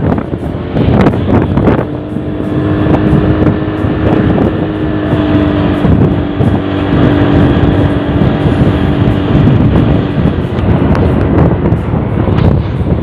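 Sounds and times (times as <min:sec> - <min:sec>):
rushing traffic: 0:00.0 - 0:13.0
vehicle engine hum: 0:00.0 - 0:13.0
wind noise on microphone: 0:00.0 - 0:13.0.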